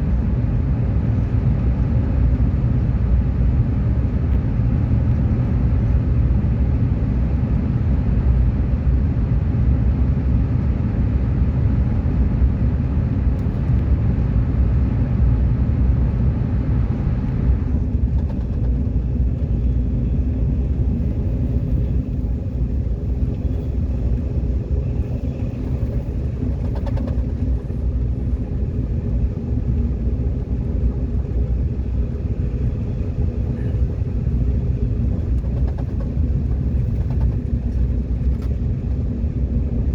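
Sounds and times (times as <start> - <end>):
subway train rumble: 0.0 - 39.9.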